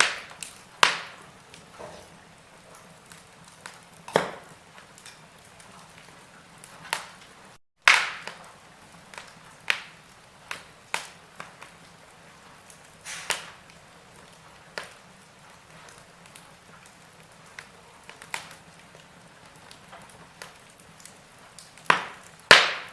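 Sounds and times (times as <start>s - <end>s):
fire pops: 0.0s - 22.9s
low steady hiss: 0.0s - 22.9s
wood fire crackling: 0.0s - 22.9s.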